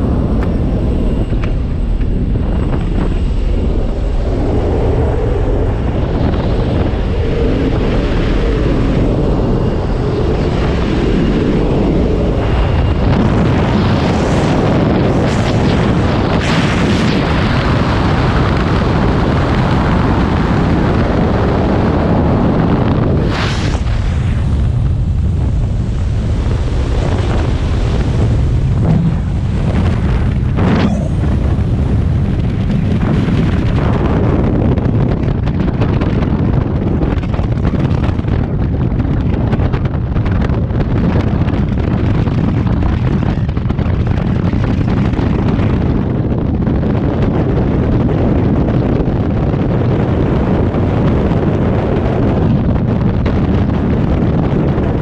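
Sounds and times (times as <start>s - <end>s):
heavy wind on microphone: 0.0s - 55.0s
plane engine drone: 0.0s - 55.0s.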